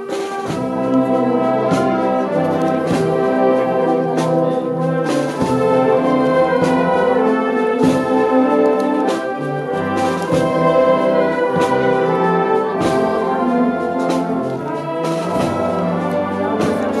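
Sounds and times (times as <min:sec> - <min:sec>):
brass band playing march: 0:00.0 - 0:17.0
drum strokes: 0:00.0 - 0:17.0.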